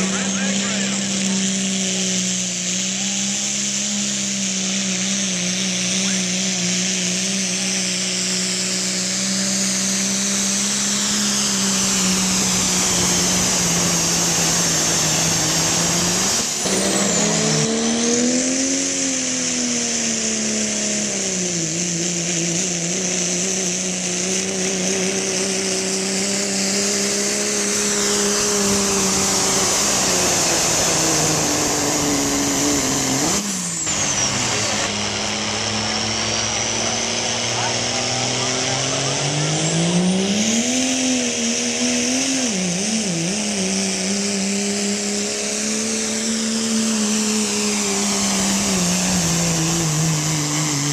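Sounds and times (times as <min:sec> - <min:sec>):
diesel truck engine under load: 0:00.0 - 0:50.9
high whine: 0:00.0 - 0:50.9.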